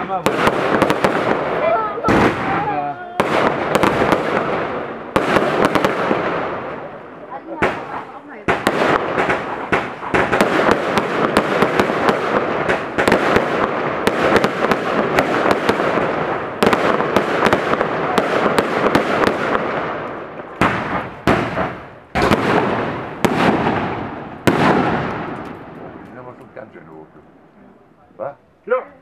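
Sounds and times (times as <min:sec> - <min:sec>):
loud firework bangs: 0:00.0 - 0:26.4
firework cracks and crackling: 0:00.0 - 0:26.5.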